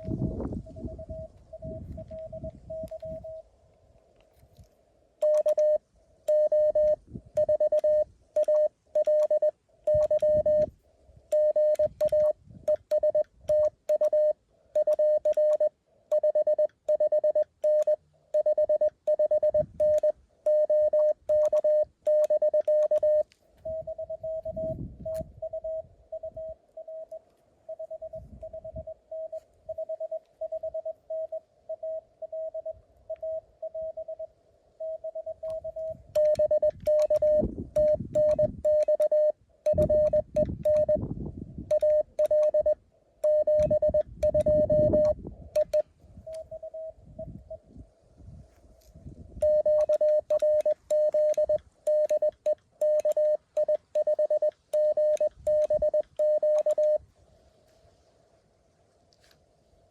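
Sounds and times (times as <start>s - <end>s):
loud morse code sidetone: 0.0s - 3.4s, 5.2s - 10.7s, 11.3s - 41.1s, 41.7s - 47.6s, 49.4s - 57.0s
faint higher morse code tone: 0.0s - 3.5s, 5.2s - 47.8s, 49.3s - 57.0s.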